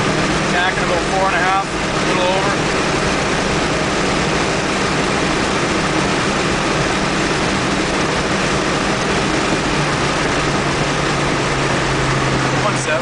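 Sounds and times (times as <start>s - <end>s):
car engine drone: 0.0s - 13.0s
wind and road noise: 0.0s - 13.0s.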